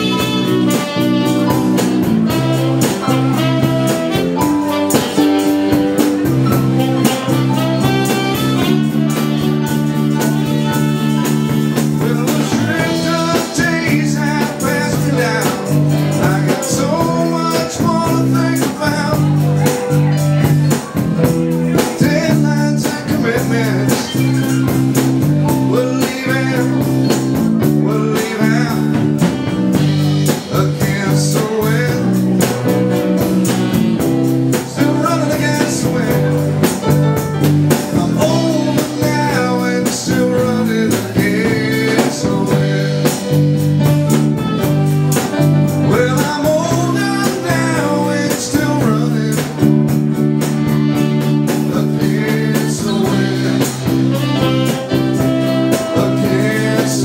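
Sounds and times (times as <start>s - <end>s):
bass guitar: 0.0s - 57.0s
electric guitar: 0.0s - 57.0s
steady drum beat: 0.0s - 57.0s.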